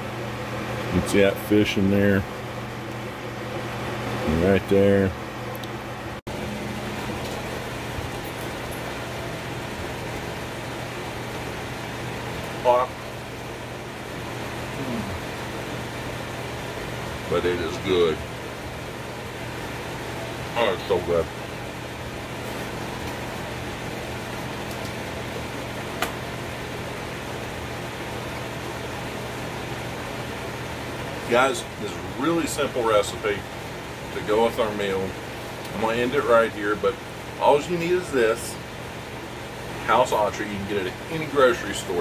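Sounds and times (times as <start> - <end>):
fan running: 0.0 - 42.0.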